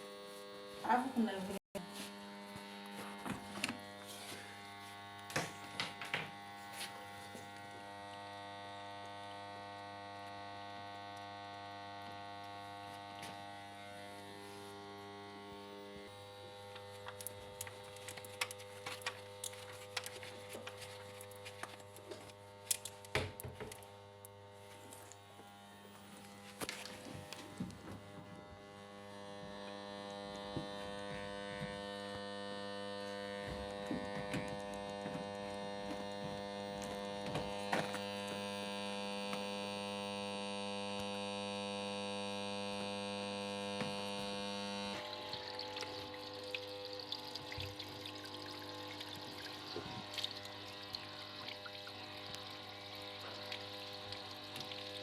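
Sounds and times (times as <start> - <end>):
solenoid valves buzzing: 0.0 - 55.0.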